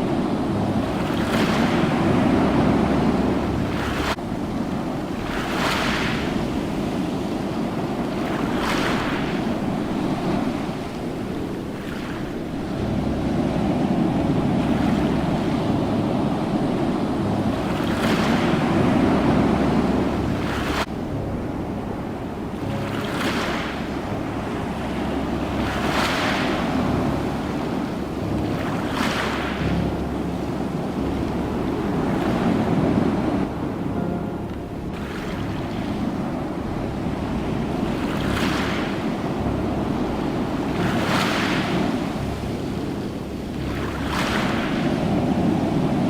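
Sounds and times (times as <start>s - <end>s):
waves rumbling: 0.0s - 46.0s.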